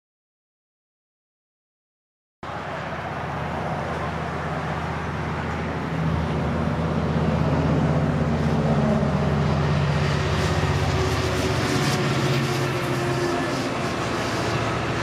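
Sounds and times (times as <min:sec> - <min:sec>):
diesel locomotive engine drone: 0:02.4 - 0:15.0.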